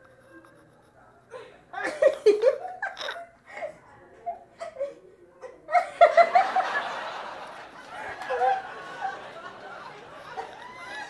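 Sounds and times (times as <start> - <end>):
people laughing: 1.3 - 11.0.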